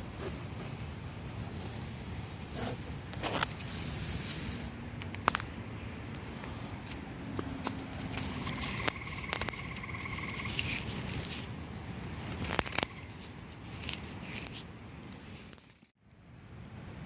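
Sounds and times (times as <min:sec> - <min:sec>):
steady low rush: 0:00.0 - 0:15.4
footsteps crackling along creek: 0:00.0 - 0:16.0.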